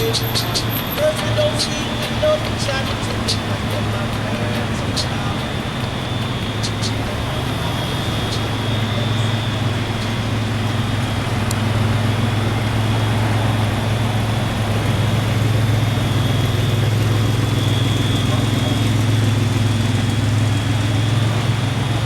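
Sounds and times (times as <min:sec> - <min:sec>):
fire truck engine idling: 0:00.0 - 0:22.0.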